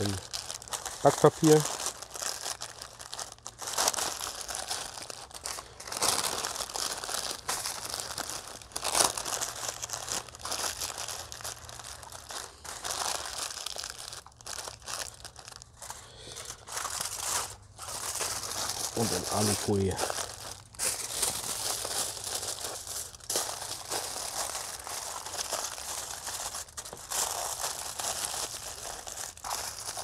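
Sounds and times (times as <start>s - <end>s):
baking paper crinkling: 0.0s - 30.0s.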